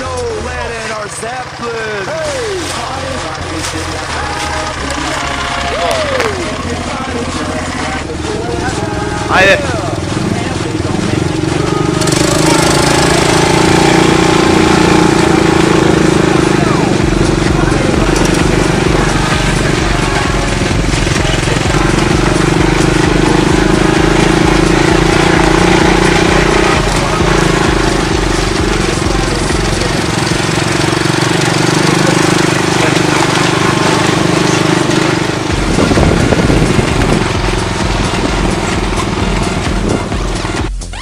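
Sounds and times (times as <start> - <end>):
atv engine running: 0.0 - 41.0
rough rushing noise: 0.0 - 41.0.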